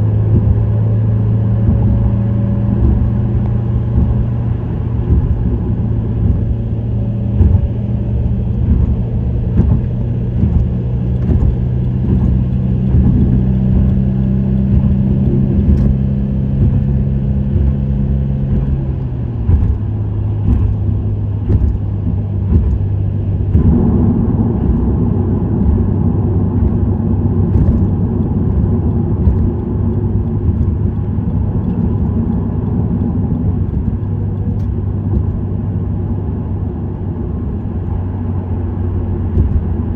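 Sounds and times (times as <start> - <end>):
car exhaust drone: 0.0 - 39.9
road noise: 0.0 - 39.9.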